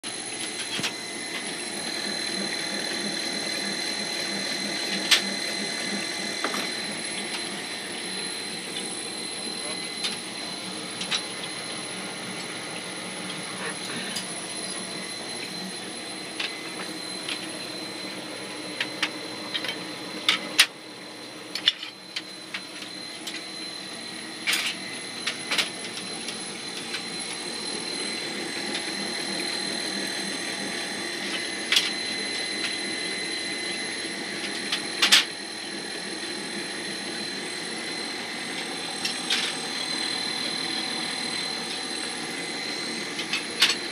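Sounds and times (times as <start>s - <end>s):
machinery running: 0.1s - 19.8s, 21.6s - 43.9s.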